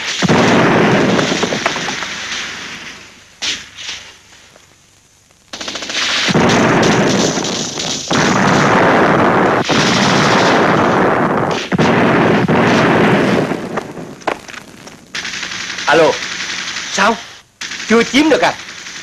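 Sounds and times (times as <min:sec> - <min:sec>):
heavy automatic gunfire: 0:00.0 - 0:03.6, 0:05.5 - 0:14.4, 0:15.1 - 0:19.0.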